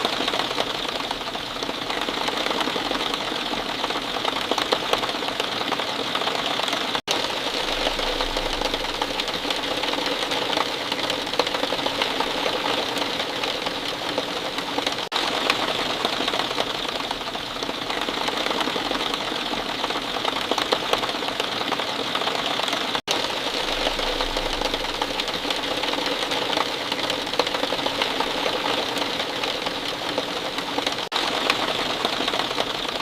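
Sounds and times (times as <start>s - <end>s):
steady falling rain: 0.0s - 33.0s.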